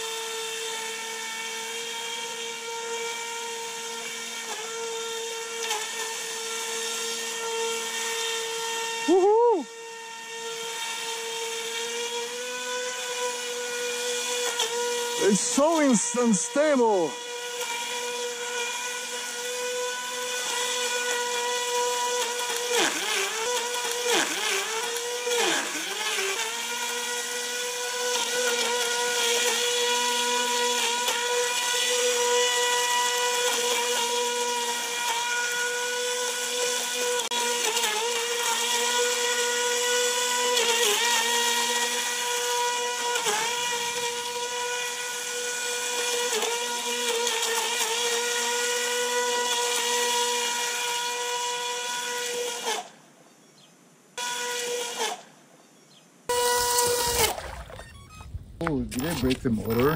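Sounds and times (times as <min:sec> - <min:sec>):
electric motor propeller whine: 0:00.0 - 0:52.9, 0:56.3 - 0:59.9.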